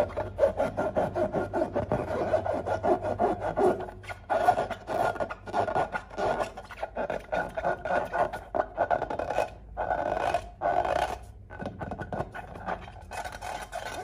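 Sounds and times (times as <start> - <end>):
squeaky rubbing on balloon: 0.0 - 14.0.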